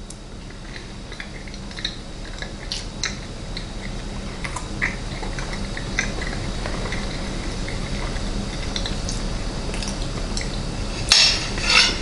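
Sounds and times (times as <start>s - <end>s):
steady low hum: 0.0s - 12.0s
person chewing: 0.5s - 11.1s.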